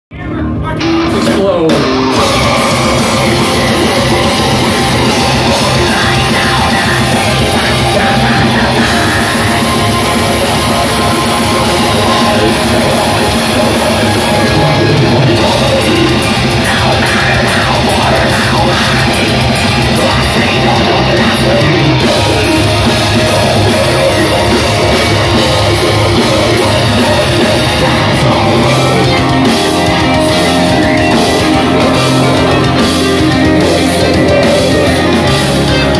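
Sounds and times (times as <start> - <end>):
metal band playing live: 0.1 - 35.9.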